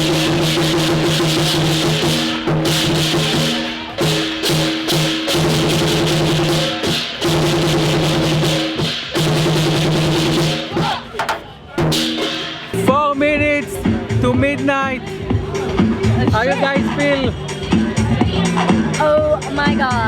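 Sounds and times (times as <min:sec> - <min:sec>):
loud music with drums: 0:00.0 - 0:20.0.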